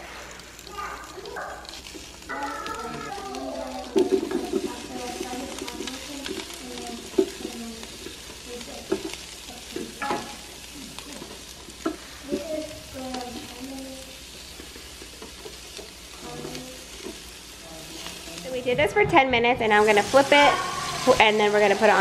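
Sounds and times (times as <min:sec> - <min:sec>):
sausages sizzling on grill: 0:00.0 - 0:22.0.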